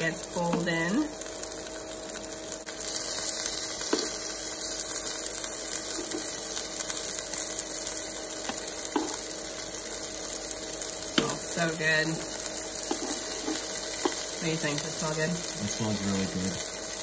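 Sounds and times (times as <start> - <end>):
chicken sizzling in a frying pan: 0.0 - 17.0.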